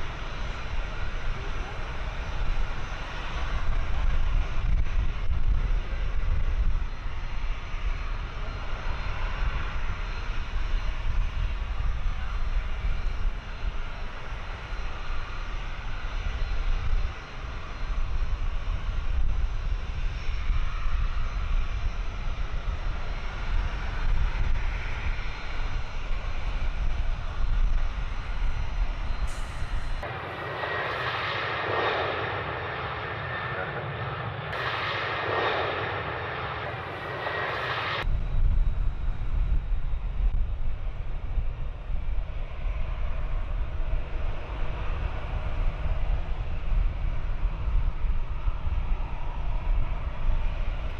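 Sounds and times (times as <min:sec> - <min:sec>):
airliner engines rumbling: 0:00.0 - 0:50.9
high engine whine: 0:00.0 - 0:50.9.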